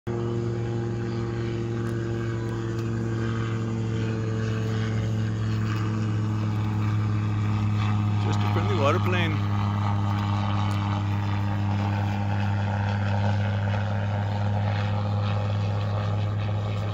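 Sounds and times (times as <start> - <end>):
engine droning: 0.1 - 16.9.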